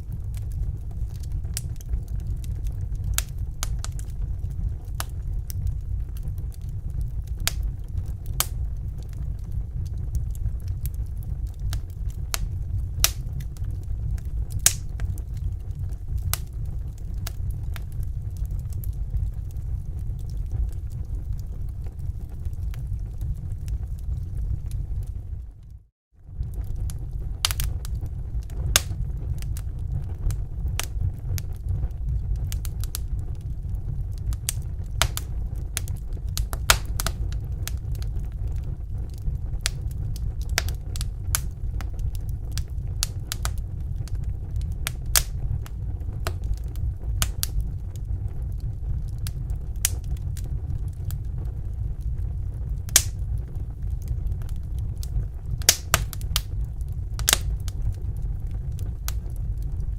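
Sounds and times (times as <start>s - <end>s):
fire low rumble: 0.0s - 59.9s
wood fire crackling and popping: 0.0s - 59.9s.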